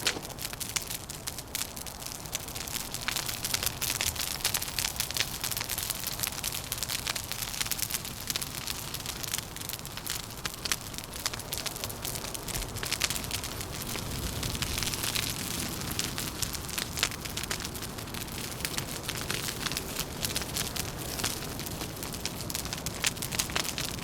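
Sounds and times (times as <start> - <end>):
low rumble of wind: 0.0 - 24.0
wood fire crackling: 0.0 - 24.0.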